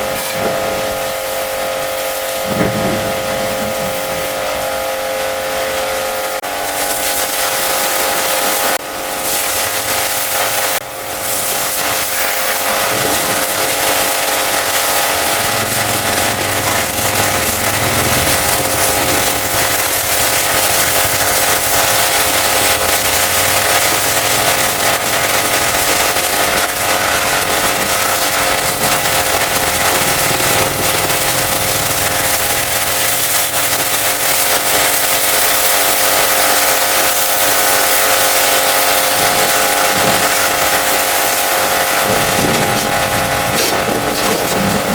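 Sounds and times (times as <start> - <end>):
pressure washer spraying water: 0.0 - 44.9
pump motor whine: 0.0 - 44.9.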